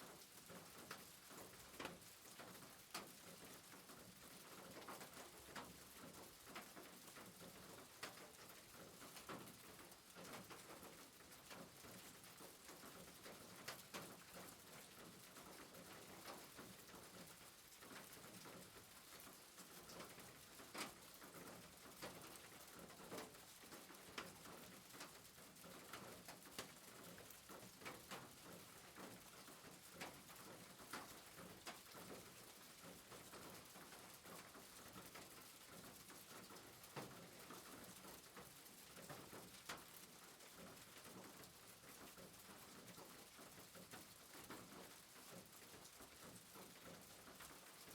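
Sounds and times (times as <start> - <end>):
light drip ticks: 0.0 - 47.9
soft rain hiss: 0.0 - 47.9.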